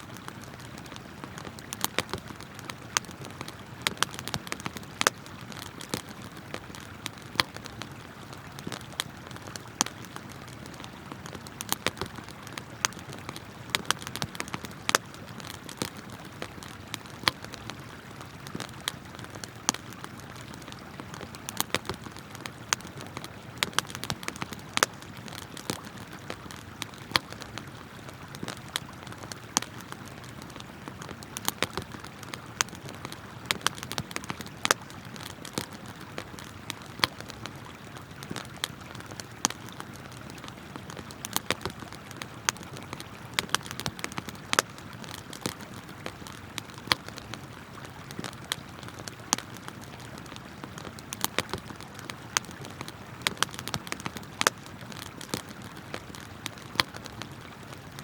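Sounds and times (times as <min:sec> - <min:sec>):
campfire crackling: 0:00.0 - 0:58.0
river water flowing: 0:00.0 - 0:58.0.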